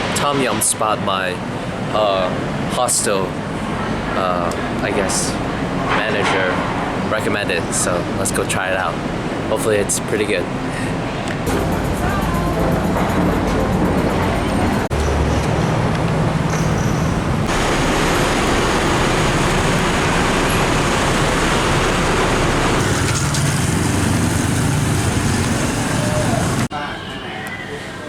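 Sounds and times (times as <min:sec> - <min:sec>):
street traffic engines: 0:00.0 - 0:26.7.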